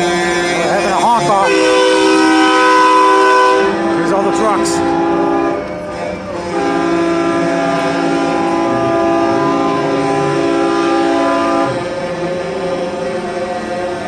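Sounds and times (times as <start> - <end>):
vehicle air horns chord: 0.0 - 11.9.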